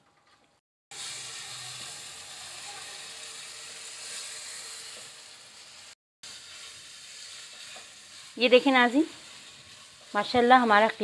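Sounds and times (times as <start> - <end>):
meat sizzling in a wok: 0.9 - 11.0
spatula stirring in a wok: 0.9 - 11.0.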